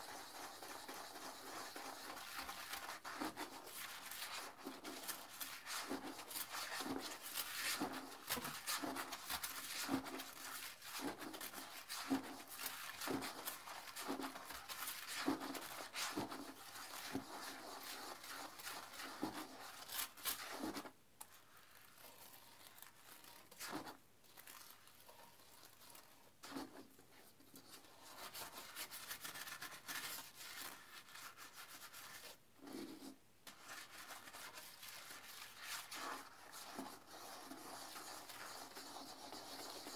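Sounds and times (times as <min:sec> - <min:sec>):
toilet brush scrubbing bowl: 0:00.0 - 0:39.9.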